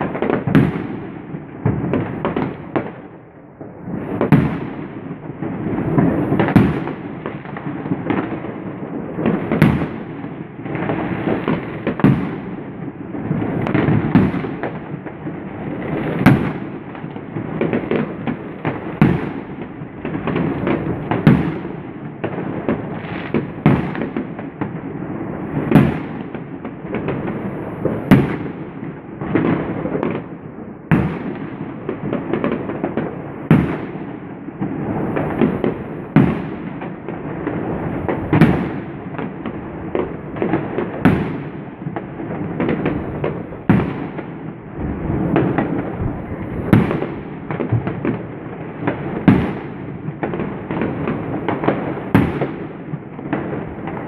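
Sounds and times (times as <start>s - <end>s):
firework shells bursting with bangs: 0.0s - 24.9s, 25.6s - 54.0s
fireworks crackle and rumble: 0.0s - 54.0s.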